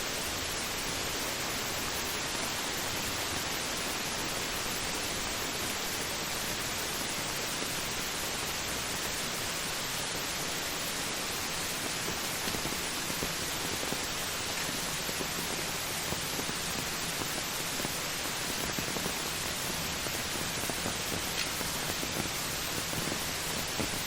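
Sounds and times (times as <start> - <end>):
heavy rain hissing: 0.0 - 24.0.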